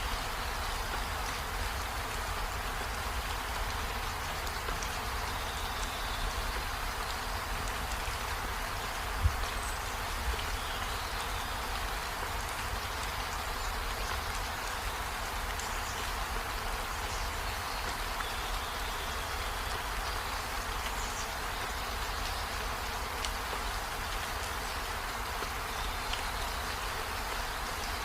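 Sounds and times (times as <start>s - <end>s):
faint drip ticks: 0.0s - 28.0s
rain hiss: 0.0s - 28.0s.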